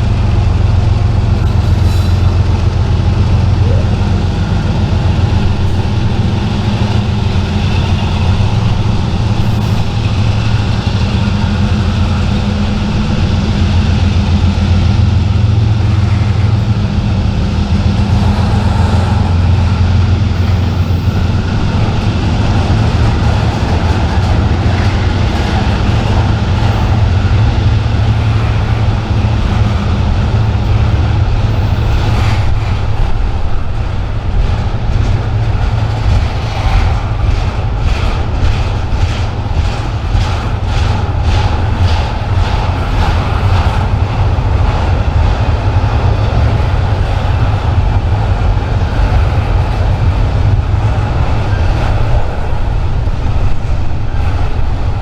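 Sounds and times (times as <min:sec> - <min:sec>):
diesel locomotive engines running: 0:00.0 - 0:55.0.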